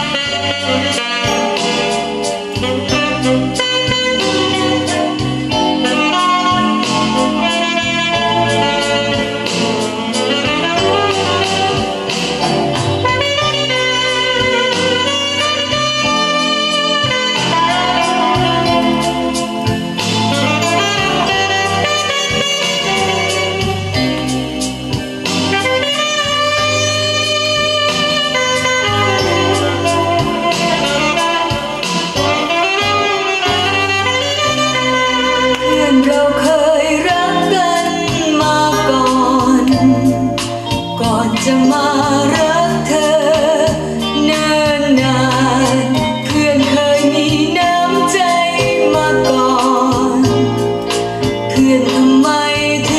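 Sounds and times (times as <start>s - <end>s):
music from vinyl record: 0.0s - 52.9s.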